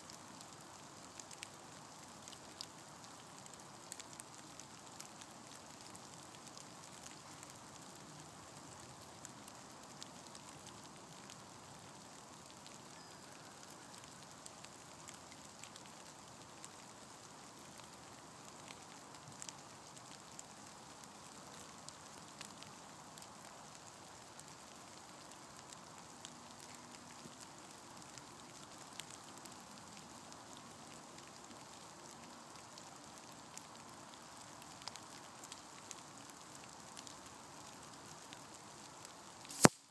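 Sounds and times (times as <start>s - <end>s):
faint steady rain: 0.0s - 39.9s
raindrops ticking: 0.1s - 39.9s.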